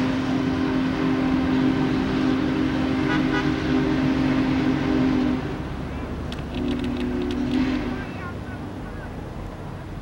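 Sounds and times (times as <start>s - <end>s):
locomotive rumble: 0.0s - 10.0s.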